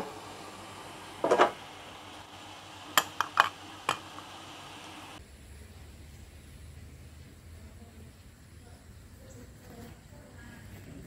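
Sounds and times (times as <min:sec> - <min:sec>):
faint simmering hiss: 0:00.0 - 0:11.0.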